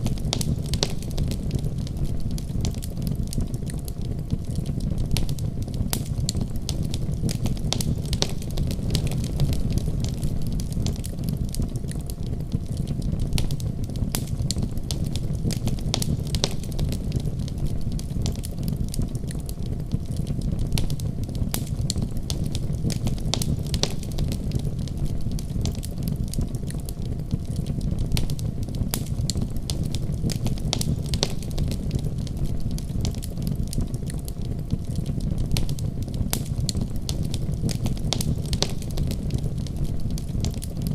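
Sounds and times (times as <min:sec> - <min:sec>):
fire crackling in a fireplace: 0:00.0 - 0:40.9
steady low rumble: 0:00.0 - 0:40.9.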